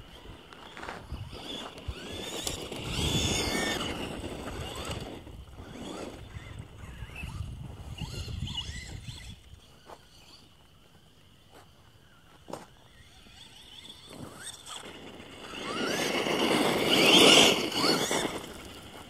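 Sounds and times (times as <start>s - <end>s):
tyres crunching on gravel: 0.0s - 7.2s, 8.7s - 19.0s
rc truck motor whining: 0.0s - 19.0s.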